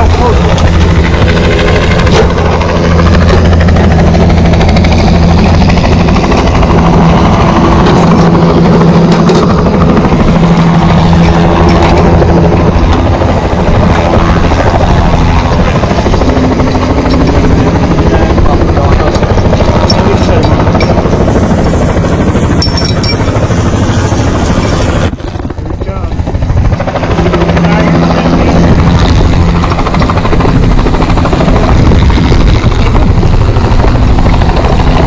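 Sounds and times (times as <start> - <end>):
helicopter rotor and engine drone: 0.0 - 35.0.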